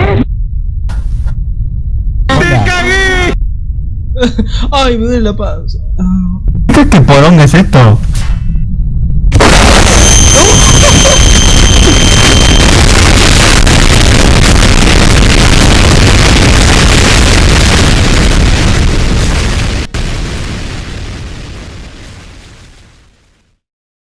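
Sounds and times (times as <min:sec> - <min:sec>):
distorted explosion rumble: 0:00.0 - 0:04.6, 0:05.8 - 0:23.6.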